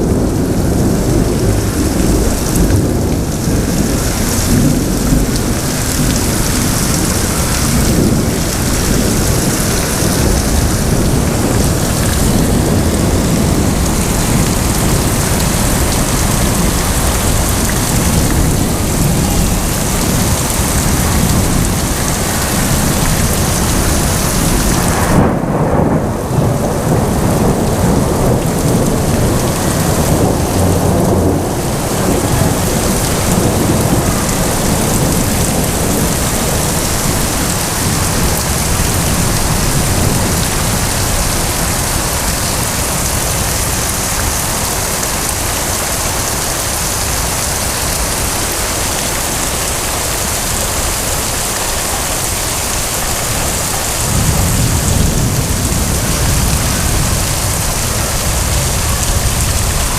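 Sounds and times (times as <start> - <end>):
heavy rain hissing: 0.0 - 59.9
low thunder rumbling: 0.0 - 59.9.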